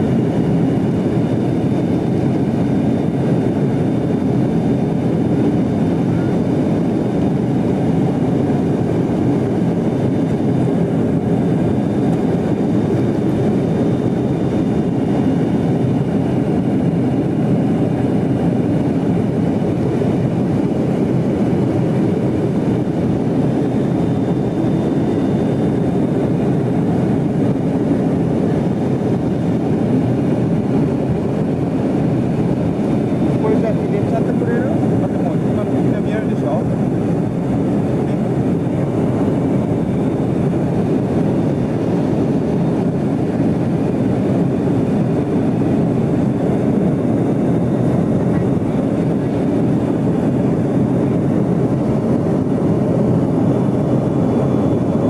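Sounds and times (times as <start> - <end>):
airflow: 0.0 - 55.0
jet engine rumble in cabin: 0.0 - 55.0.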